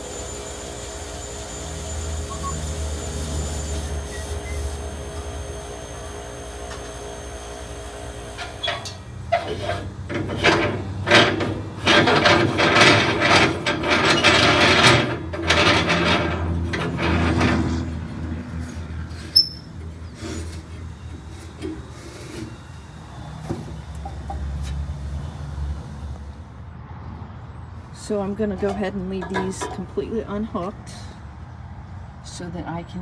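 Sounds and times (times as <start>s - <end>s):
propane tanks scraping and rubbing: 0.0s - 24.8s, 27.8s - 31.2s.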